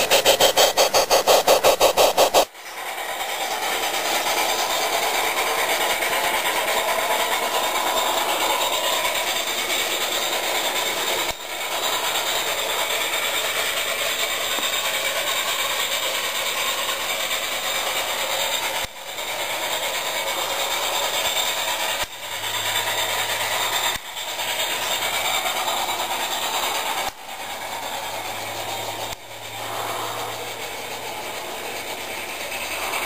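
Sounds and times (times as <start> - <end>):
model train whirring and rattling: 0.0 - 33.0.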